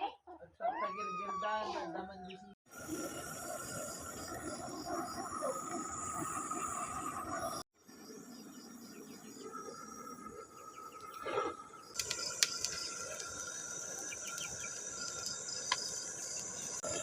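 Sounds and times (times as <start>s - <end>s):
insects chirping: 2.7s - 17.0s.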